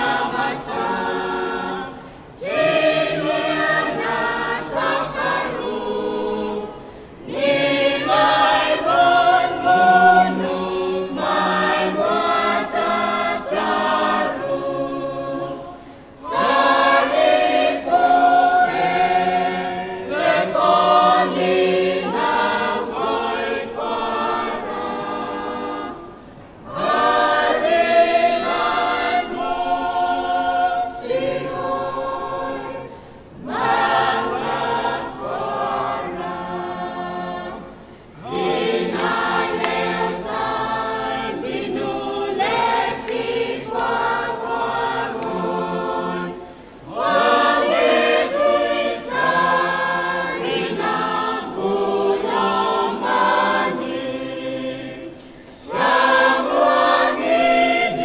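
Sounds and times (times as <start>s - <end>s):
choir singing a hymn unaccompanied: 0.0s - 58.0s.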